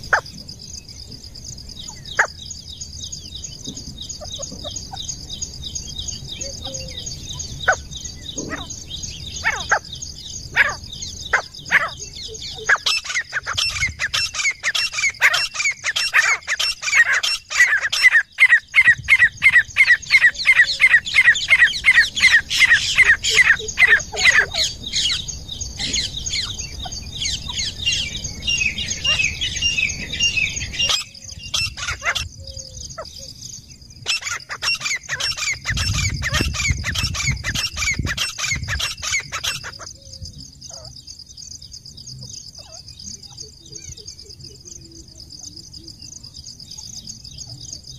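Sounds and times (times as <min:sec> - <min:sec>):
francolin calling: 0:00.0 - 0:47.9.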